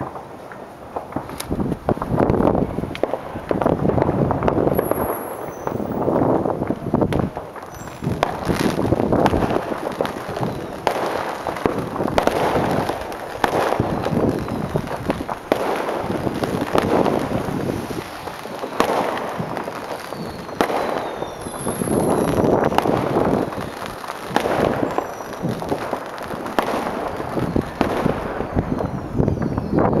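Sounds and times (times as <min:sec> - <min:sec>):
fireworks bursting: 0:00.0 - 0:30.0
sharp fireworks bangs: 0:00.0 - 0:30.0.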